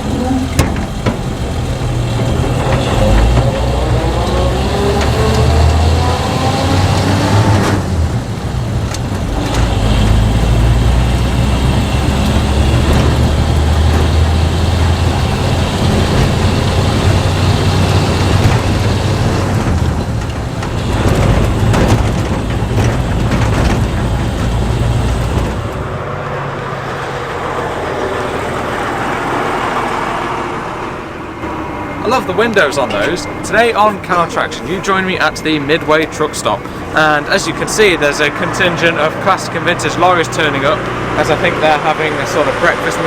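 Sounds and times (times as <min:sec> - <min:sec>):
lorry diesel engine rumble: 0:00.0 - 0:43.0.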